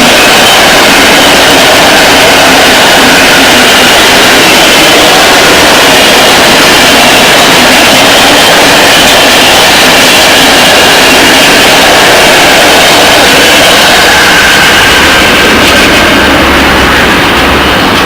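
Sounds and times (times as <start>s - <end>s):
train passing close by: 0.0s - 18.0s.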